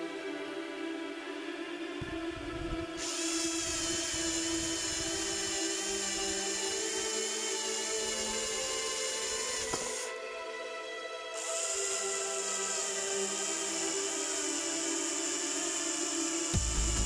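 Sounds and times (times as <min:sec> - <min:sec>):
background music: 0:00.0 - 0:17.0
drill boring into wood: 0:02.0 - 0:10.1, 0:11.4 - 0:17.0.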